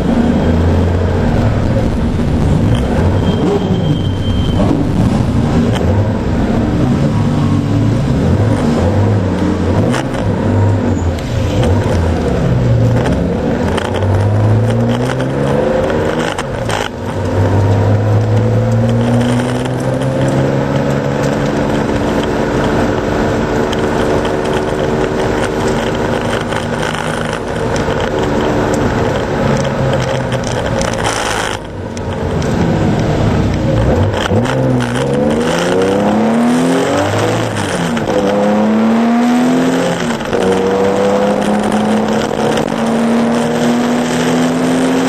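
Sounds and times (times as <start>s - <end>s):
racing car engine revving: 0.0s - 45.0s.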